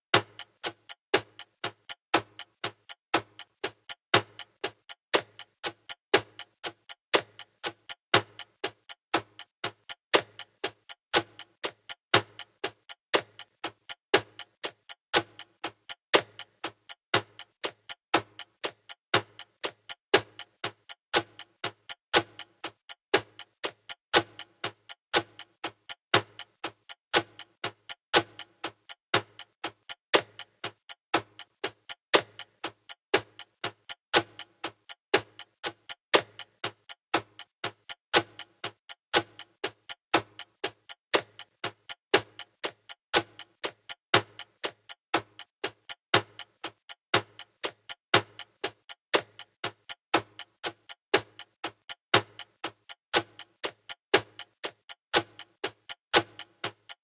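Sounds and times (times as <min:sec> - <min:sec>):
clock ticking: 0:00.1 - 0:57.0.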